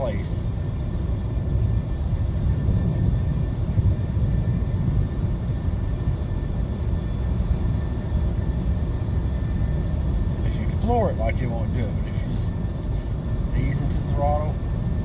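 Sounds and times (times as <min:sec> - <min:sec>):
car engine and tyres droning: 0:00.0 - 0:15.0.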